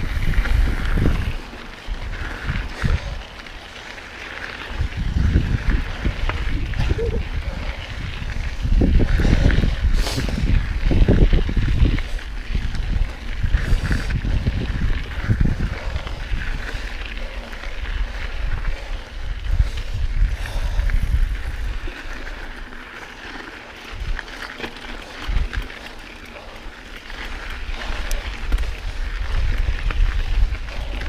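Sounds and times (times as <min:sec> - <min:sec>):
tyres rolling on dirt: 0:00.0 - 0:31.0
wind buffeting microphone: 0:00.0 - 0:31.0.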